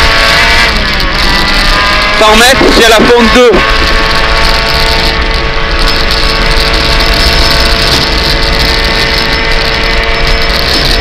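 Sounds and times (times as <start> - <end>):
rally car engine at high revs: 0.0 - 11.0
tyre and road noise: 0.0 - 11.0.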